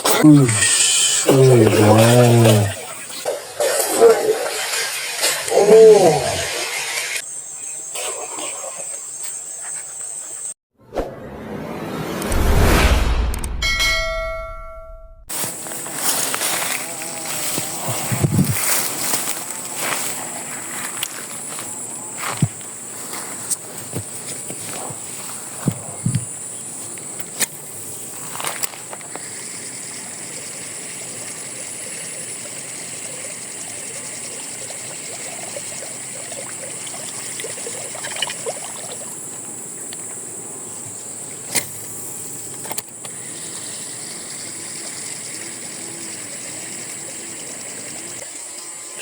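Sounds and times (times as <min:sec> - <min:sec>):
insect chorus: 0:00.0 - 0:10.5, 0:15.3 - 0:49.0.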